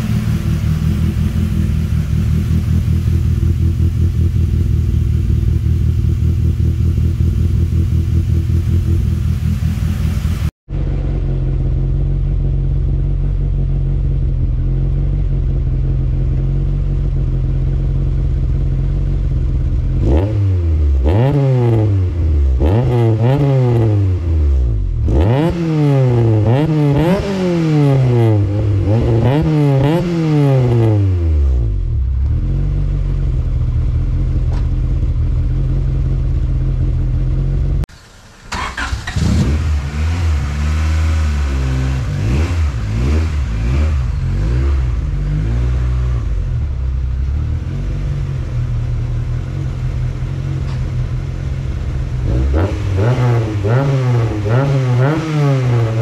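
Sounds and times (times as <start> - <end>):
car engine idling: 0.0 - 25.2, 26.0 - 56.0
car engine revving: 0.0 - 56.0.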